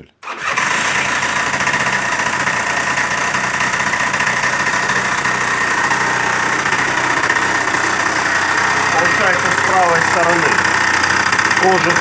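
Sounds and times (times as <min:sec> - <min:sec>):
scooter engine idling: 0:00.2 - 0:12.0
knock inside engine: 0:01.4 - 0:12.0.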